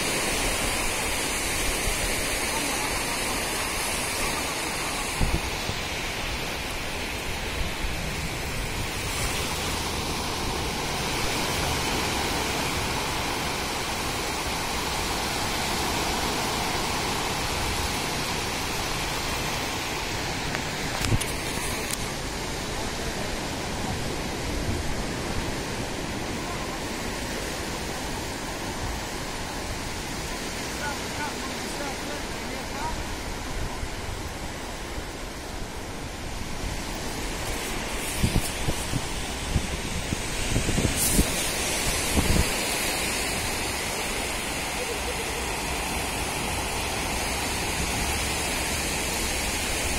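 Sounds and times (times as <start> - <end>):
surf breaking on a beach: 0.0 - 49.9.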